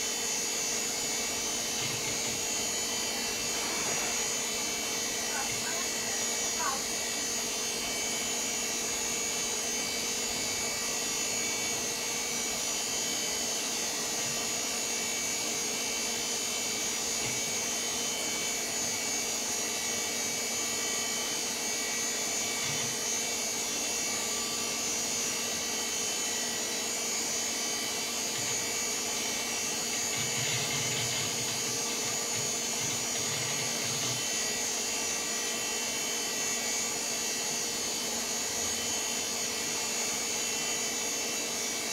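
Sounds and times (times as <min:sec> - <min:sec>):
cooling fans whirring: 0:00.0 - 0:41.9.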